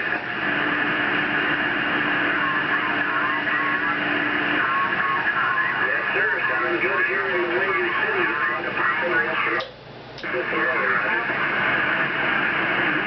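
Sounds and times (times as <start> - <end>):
faint garbled distant voices: 0.0 - 13.0
radio static hiss: 0.0 - 13.0.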